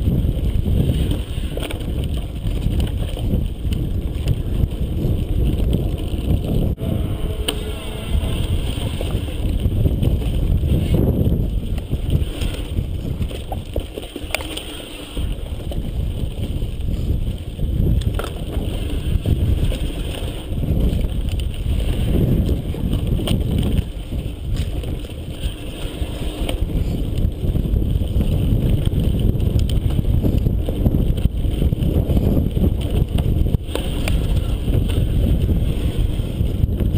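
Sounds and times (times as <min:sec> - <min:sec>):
bike clicks and rattles: 0:00.0 - 0:36.9
tyres rolling on dirt: 0:00.0 - 0:36.9
wind buffeting microphone: 0:00.0 - 0:36.9.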